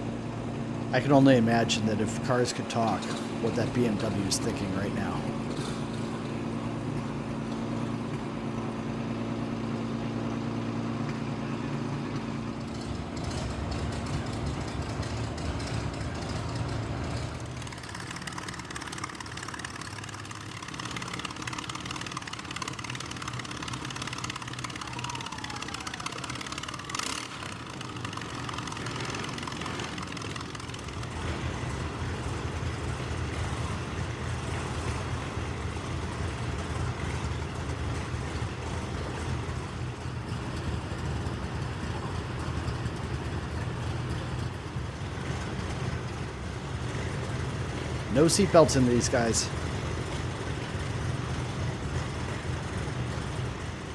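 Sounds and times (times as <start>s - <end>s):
race car engines rumbling: 0.0s - 53.9s.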